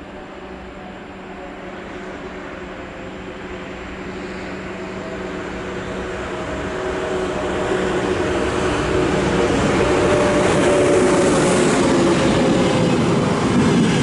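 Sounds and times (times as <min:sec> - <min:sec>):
electric train running: 0:02.5 - 0:14.0.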